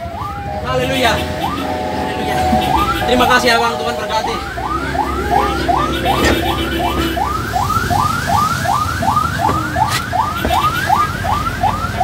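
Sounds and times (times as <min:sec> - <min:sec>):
siren on fast yelp: 0:00.0 - 0:12.0
vehicle running rumble: 0:00.0 - 0:12.0.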